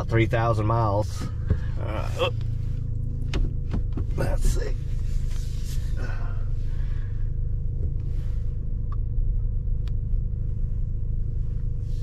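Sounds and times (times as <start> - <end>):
engine rumbling inside cab: 0.0 - 12.0.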